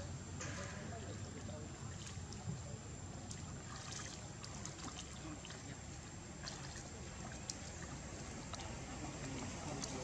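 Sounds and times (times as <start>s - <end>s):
shallow water splashing: 1.0s - 10.0s.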